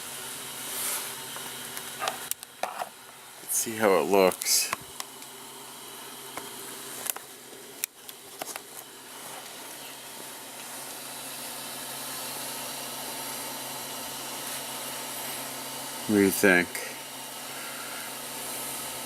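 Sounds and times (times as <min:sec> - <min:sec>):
background hiss and hum: 0:00.0 - 0:19.0.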